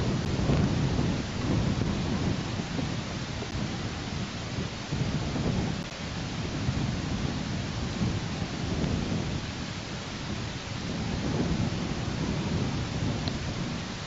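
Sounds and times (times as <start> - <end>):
steady hiss: 0.0 - 14.0
wind buffeting microphone: 0.0 - 14.0.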